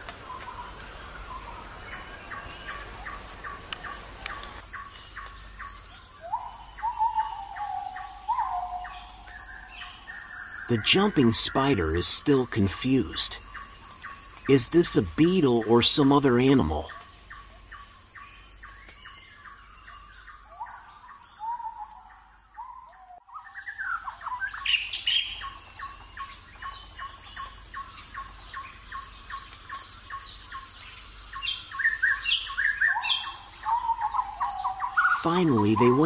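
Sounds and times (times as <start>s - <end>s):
birds chirping and singing: 0.0s - 36.0s.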